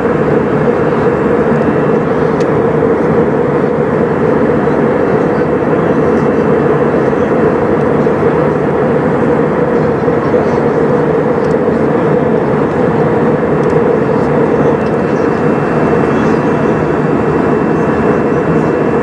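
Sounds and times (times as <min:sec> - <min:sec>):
airplane cabin engine and airflow: 0:00.0 - 0:19.0.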